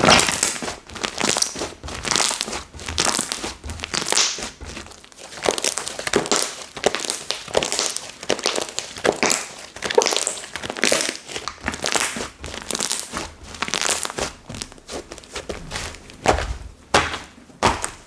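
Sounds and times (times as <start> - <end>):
hands squishing slime: 0.0 - 18.0.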